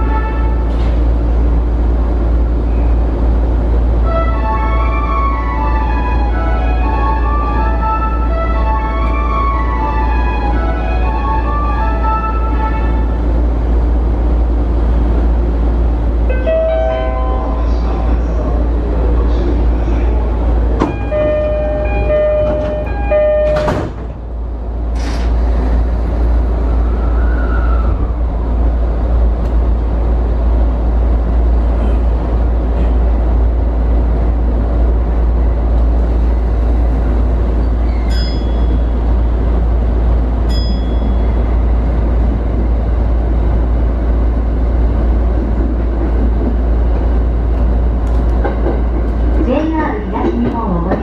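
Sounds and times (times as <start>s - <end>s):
electric train rumble: 0.0s - 51.0s.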